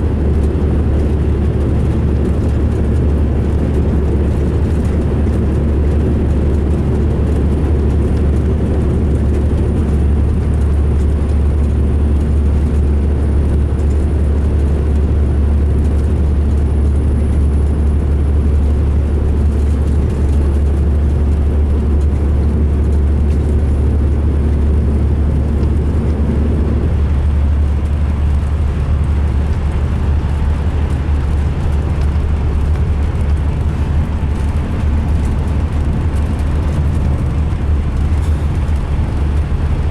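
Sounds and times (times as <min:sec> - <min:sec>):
diesel coach engine droning: 0:00.0 - 0:39.9.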